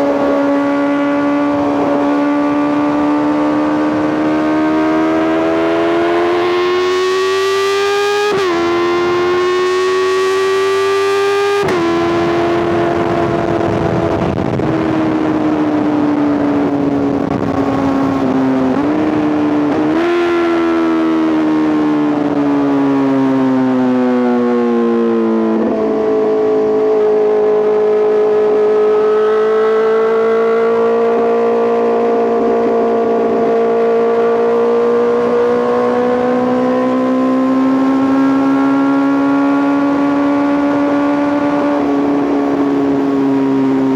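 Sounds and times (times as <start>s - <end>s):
motorcycle engine while riding: 0.0s - 43.9s.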